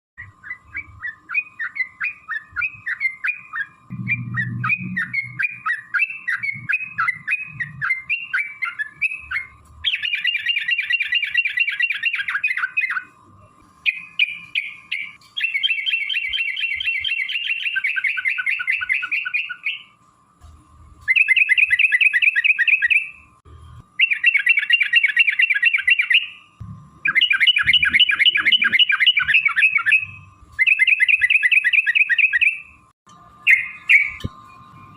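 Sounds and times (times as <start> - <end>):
bird chirping: 0.2 - 13.2, 13.8 - 20.0, 21.1 - 23.3, 24.0 - 32.8, 33.4 - 34.9.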